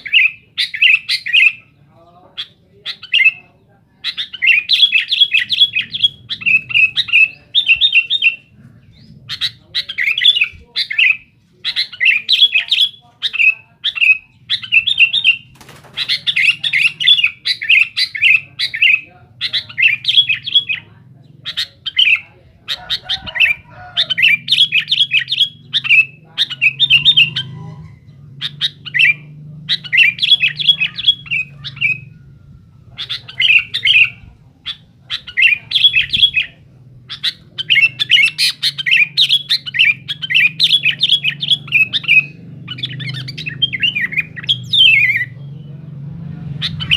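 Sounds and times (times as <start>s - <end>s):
bulbul singing chirps: 0.0s - 46.9s
faint low hum: 0.0s - 46.9s.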